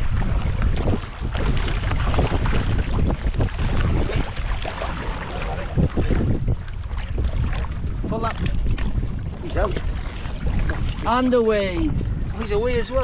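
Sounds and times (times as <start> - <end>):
water splashing against kayak: 0.0 - 13.0
wind buffeting microphone: 0.0 - 13.0.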